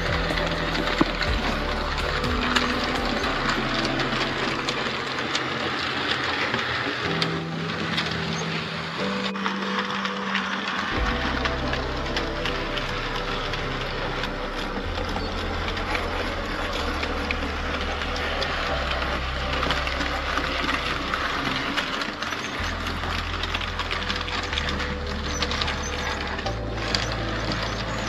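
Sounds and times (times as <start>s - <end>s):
low steady hum: 0.0s - 28.0s
model train wheels clicking: 0.0s - 28.0s.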